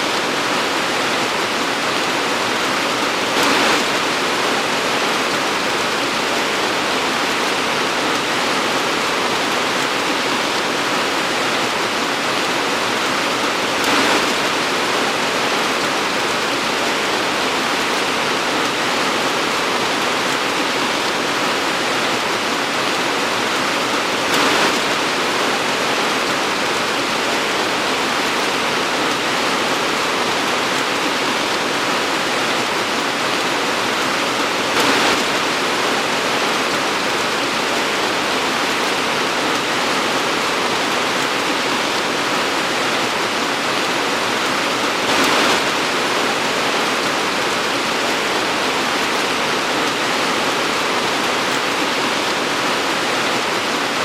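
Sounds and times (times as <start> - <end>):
torrential rain pouring: 0.0 - 54.0.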